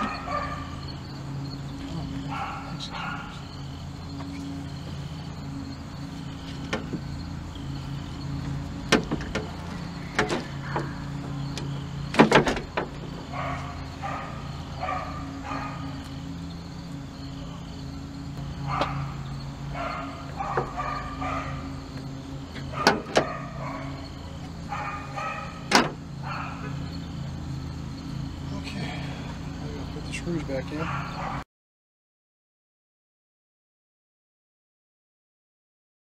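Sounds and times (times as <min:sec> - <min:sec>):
steady low hum: 0:00.0 - 0:31.4.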